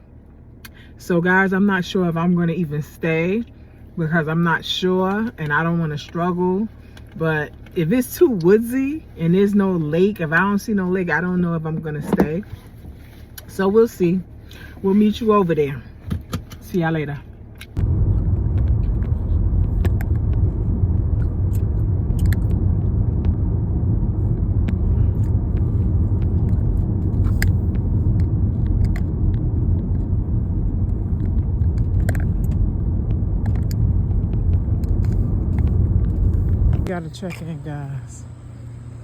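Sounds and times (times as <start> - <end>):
road rumble inside moving car: 0.0 - 39.0.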